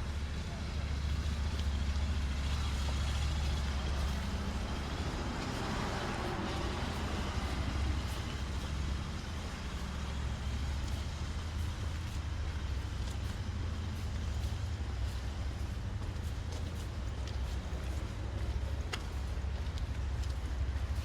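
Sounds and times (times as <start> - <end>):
vehicle engine rumble: 0.0 - 21.0
vehicle passing with tyre noise: 0.0 - 21.0.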